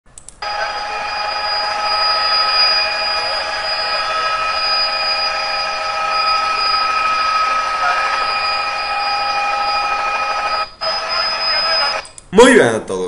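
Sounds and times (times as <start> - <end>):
helicopter cabin noise: 0.4 - 12.0
turbine whining tones: 0.4 - 12.1.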